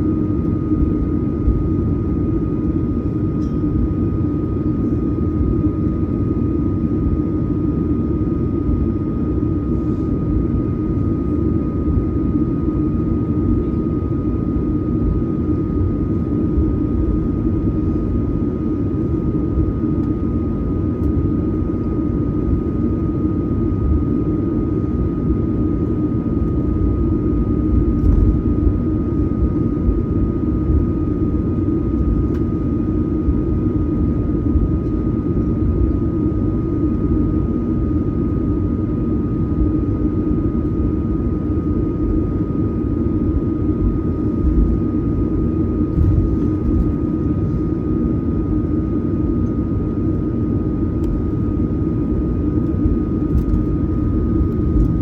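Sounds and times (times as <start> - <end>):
airplane cabin engine rumble: 0.0 - 55.0
thin constant whine: 0.0 - 55.0.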